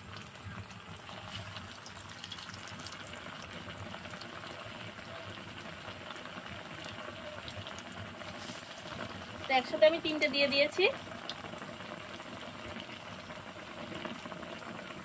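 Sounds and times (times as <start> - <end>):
oil sizzling and bubbling: 0.0 - 15.0.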